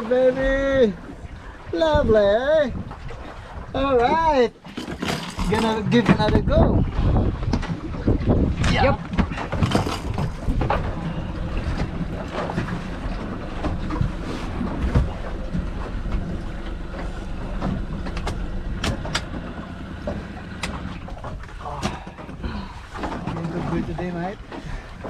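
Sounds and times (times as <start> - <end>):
boat motor running steadily: 0.0 - 25.0
water noise: 0.0 - 25.0
wind: 0.0 - 25.0.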